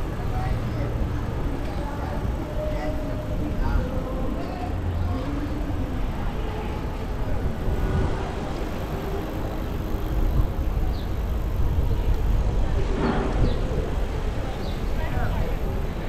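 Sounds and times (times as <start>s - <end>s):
tyre and road noise: 0.0s - 16.0s
wind rumbling on microphone: 0.0s - 16.0s.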